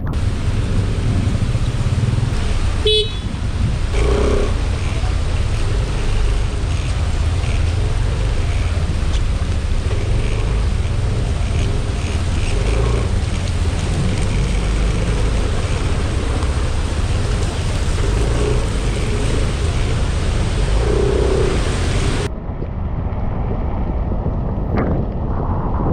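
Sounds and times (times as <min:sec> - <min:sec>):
heavy rain: 0:00.0 - 0:22.3
road traffic rumble: 0:00.0 - 0:25.9.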